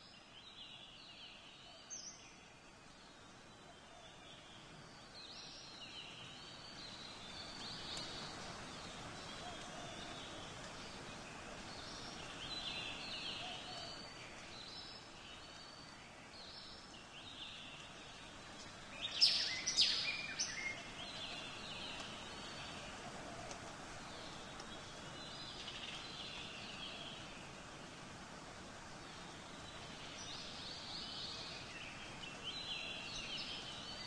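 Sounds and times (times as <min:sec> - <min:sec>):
birds chirping: 0:00.0 - 0:34.0
steady background hiss: 0:00.0 - 0:34.0.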